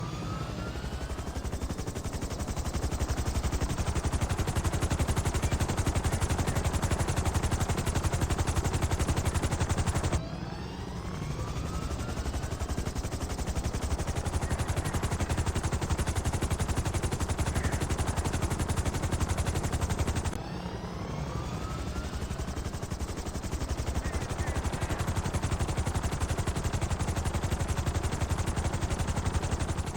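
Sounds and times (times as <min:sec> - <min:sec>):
helicopter engine whine: 0:00.0 - 0:29.9
helicopter rotor blades chopping: 0:00.0 - 0:29.9.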